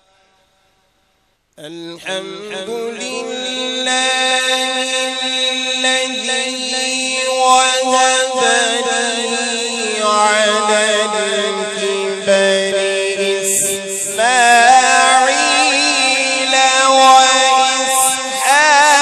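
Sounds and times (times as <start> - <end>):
man chanting melodically: 1.6 - 19.0.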